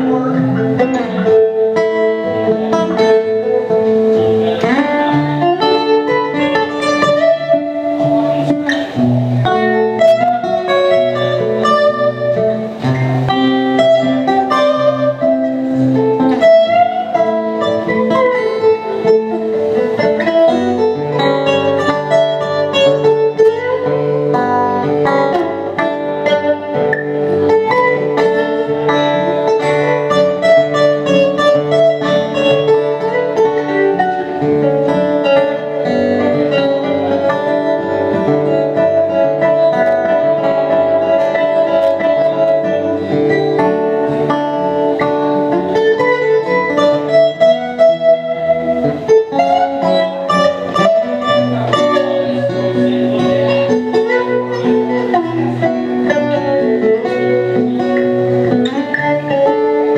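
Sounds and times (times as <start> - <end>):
acoustic guitars playing: 0.0 - 59.9.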